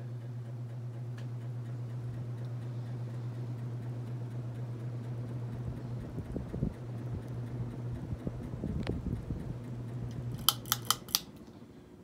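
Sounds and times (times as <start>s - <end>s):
ceiling fan motor buzzing: 0.0s - 12.0s.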